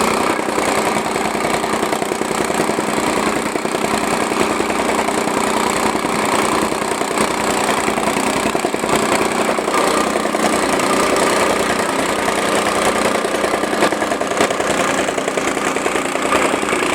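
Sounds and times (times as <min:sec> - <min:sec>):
rammer engine running: 0:00.0 - 0:16.9
rapid pounding on soil: 0:00.0 - 0:16.9.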